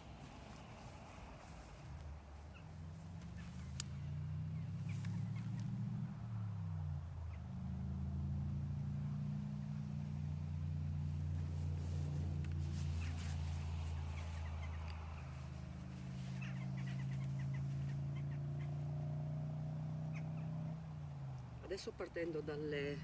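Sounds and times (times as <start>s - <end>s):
motor vehicle engine drone: 0.0s - 23.0s.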